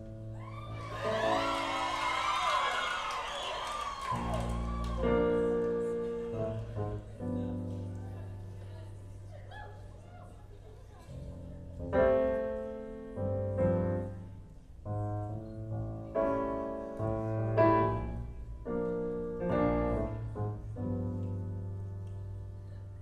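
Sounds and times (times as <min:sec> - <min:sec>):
piano chords over loudspeakers: 0:00.0 - 0:10.5, 0:11.1 - 0:23.0.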